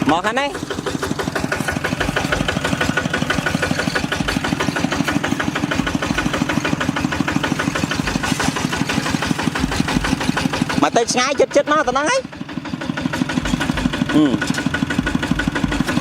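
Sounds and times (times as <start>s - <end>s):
diesel engine chugging: 0.0s - 16.0s.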